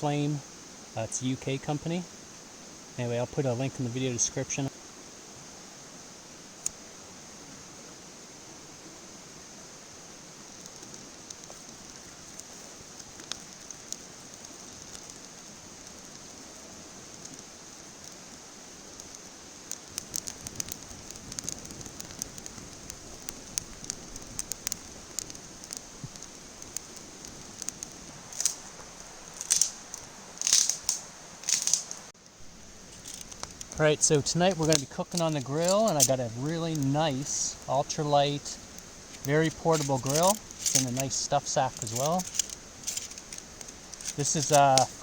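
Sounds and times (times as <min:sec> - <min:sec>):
campfire crackling and popping: 0:00.0 - 0:45.0
fire hissing: 0:00.0 - 0:45.0.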